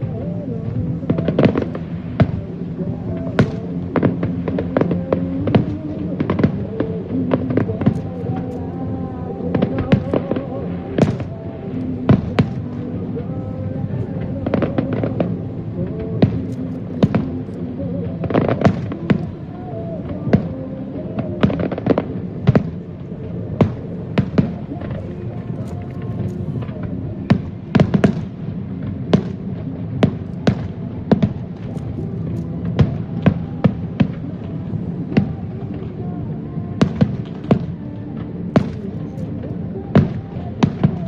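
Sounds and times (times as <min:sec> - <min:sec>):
fireworks bangs: 0:00.0 - 0:41.0
low rumble: 0:00.0 - 0:41.0.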